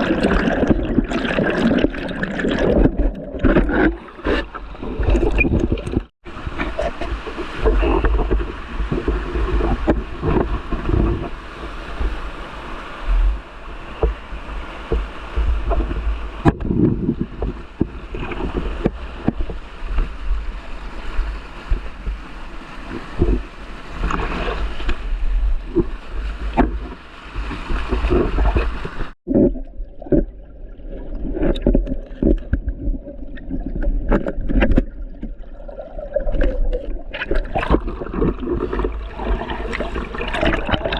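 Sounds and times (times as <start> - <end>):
water sloshing and gurgling: 0.0 - 40.9
water splashes: 0.0 - 40.9.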